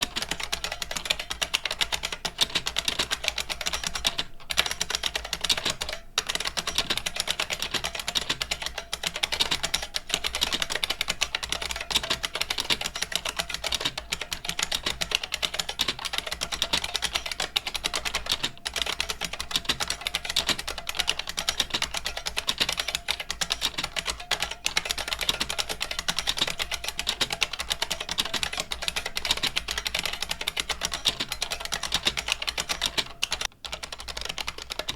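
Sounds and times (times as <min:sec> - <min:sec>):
rapid keyboard typing clicks: 0:00.0 - 0:34.9.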